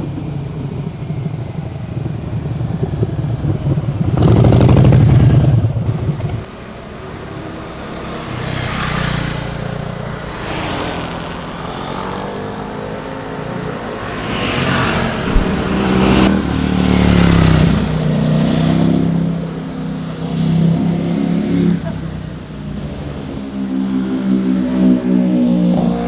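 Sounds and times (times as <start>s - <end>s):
motorcycles passing revving: 0.0s - 26.0s.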